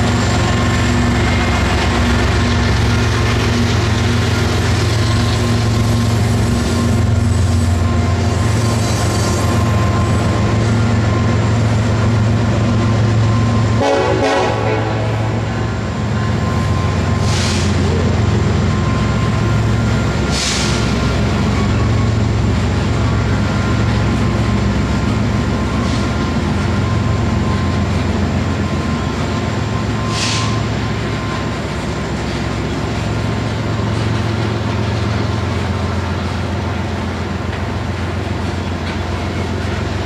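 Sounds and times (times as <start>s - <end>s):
freight train wheels rumbling on rail: 0.0s - 40.0s.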